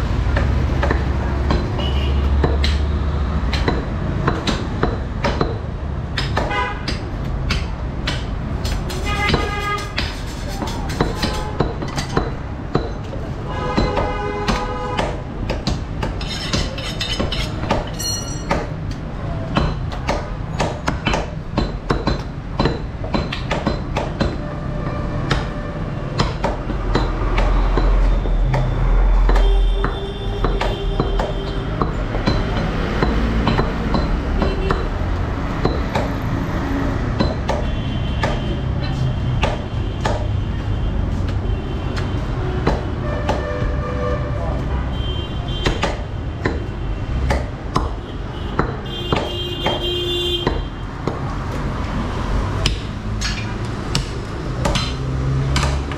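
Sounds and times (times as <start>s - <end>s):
cleavers chopping meat on wood: 0.2s - 24.4s, 25.1s - 43.8s, 45.4s - 55.9s.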